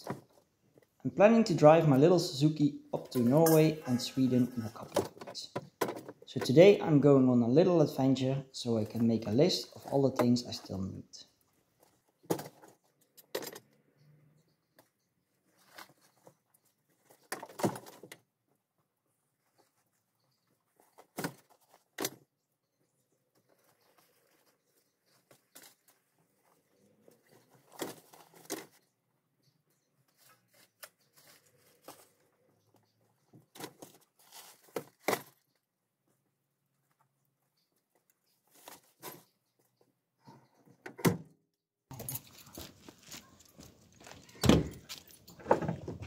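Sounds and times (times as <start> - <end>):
outdoor background noise: 0.0 - 46.0.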